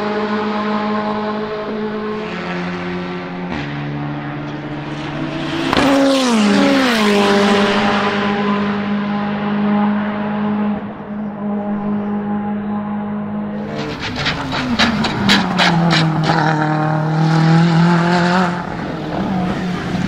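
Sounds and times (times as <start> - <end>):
race car passing: 0.0 - 20.0.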